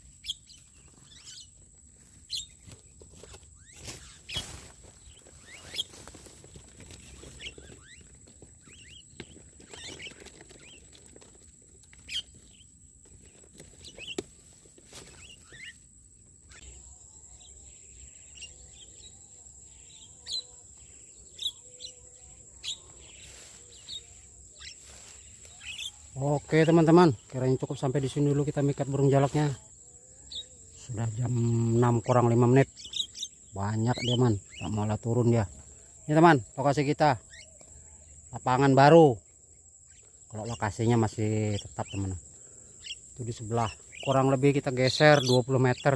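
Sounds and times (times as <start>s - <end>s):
bird chirps and calls: 0.0s - 1.6s, 2.2s - 11.0s, 11.9s - 12.7s, 13.8s - 14.3s, 14.9s - 15.8s, 16.4s - 45.9s
high insect whine: 0.0s - 45.9s.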